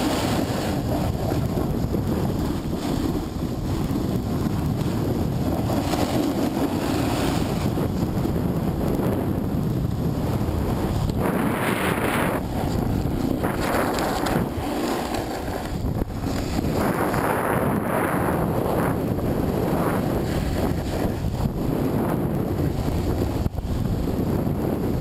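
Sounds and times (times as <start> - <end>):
skis carving snow: 0.0 - 25.0
wind buffeting microphone: 0.0 - 25.0.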